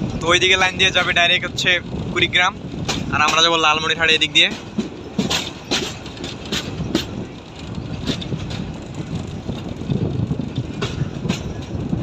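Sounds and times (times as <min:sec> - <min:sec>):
train rumbling on rails: 0:00.0 - 0:12.0
wheels clicking over rail joints: 0:00.0 - 0:12.0.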